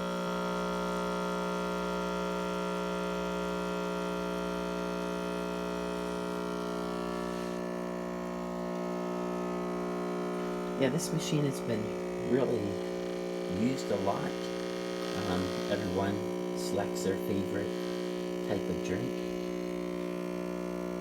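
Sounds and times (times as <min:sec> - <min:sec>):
espresso machine pump humming: 0:00.0 - 0:21.0.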